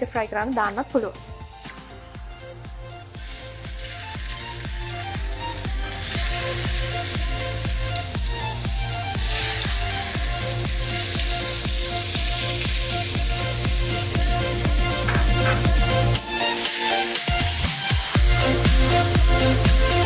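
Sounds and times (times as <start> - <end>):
background music with steady beat: 0.0 - 20.0
potatoes sizzling in hot oil: 3.1 - 20.0.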